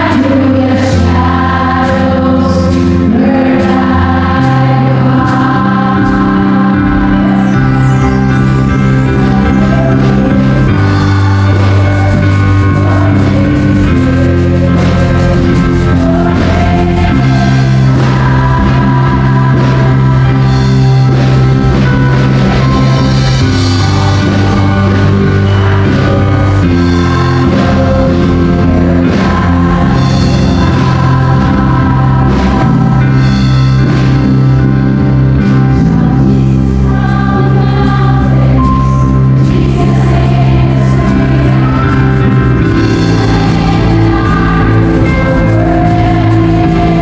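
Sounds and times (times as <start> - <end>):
amplified band with bass and drums: 0.0 - 47.0
congregation singing: 0.0 - 47.0
singers on microphones: 0.0 - 47.0.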